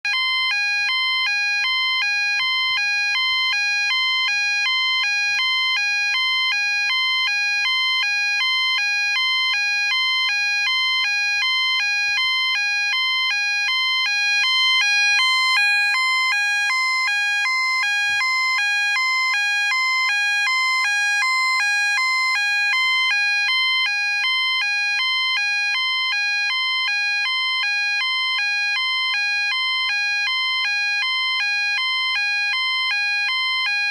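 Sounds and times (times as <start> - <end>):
two-tone fire alarm: 0.0 - 33.9.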